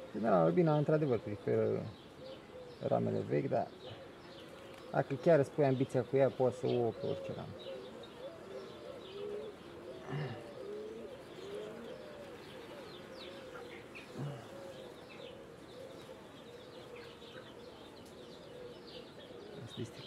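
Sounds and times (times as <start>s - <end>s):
faint bird chirps: 0.0s - 20.0s
honey bees buzzing: 0.0s - 20.0s.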